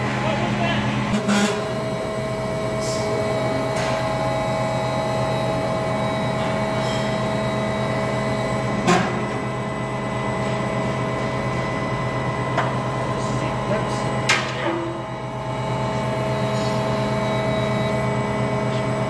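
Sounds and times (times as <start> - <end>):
bending machine humming: 0.0 - 19.0.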